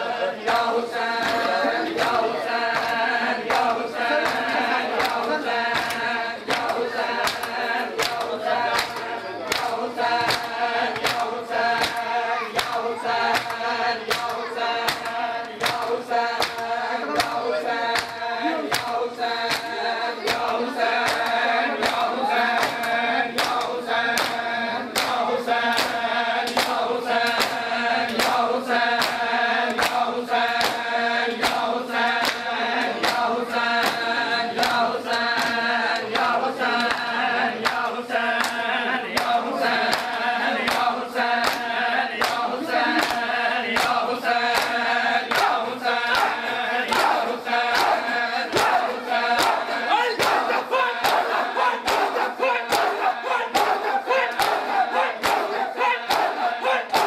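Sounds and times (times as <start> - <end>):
men chanting a lament in unison: 0.0 - 57.0
hands slapping bare chests: 0.4 - 57.0.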